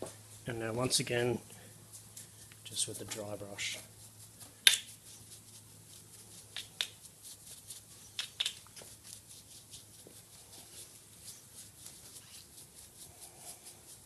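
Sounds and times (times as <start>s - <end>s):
brush sweeping over metal: 0.0s - 14.0s.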